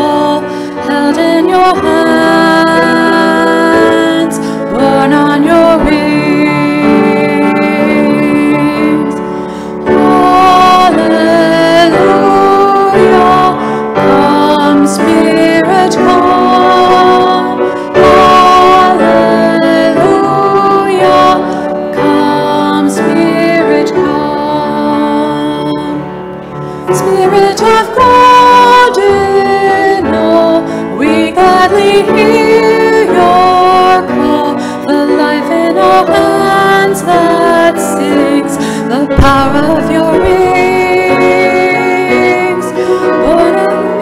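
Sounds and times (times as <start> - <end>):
women singing a hymn: 0.0 - 26.1, 26.8 - 44.0
piano accompaniment: 0.0 - 44.0.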